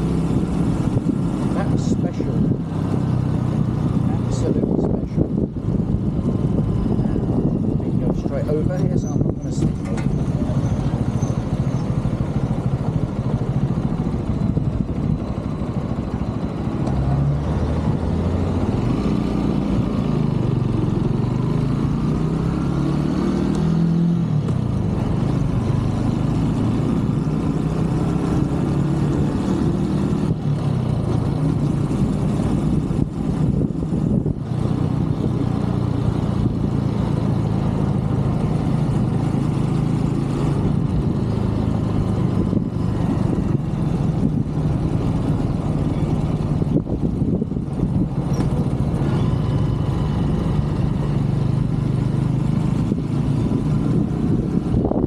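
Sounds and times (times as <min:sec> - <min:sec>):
motorbike engine riding: 0:00.0 - 0:55.0.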